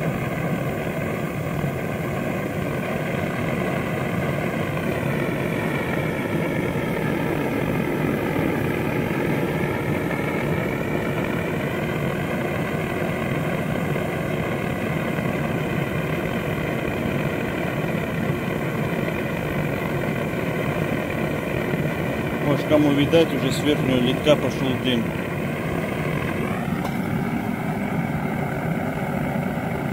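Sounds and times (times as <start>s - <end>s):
machine drone with wavering whine: 0.0s - 29.9s.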